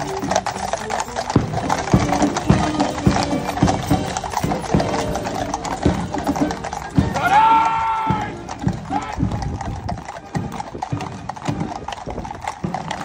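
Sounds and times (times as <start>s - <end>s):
hooves clip-clopping on pavement: 0.0s - 13.0s.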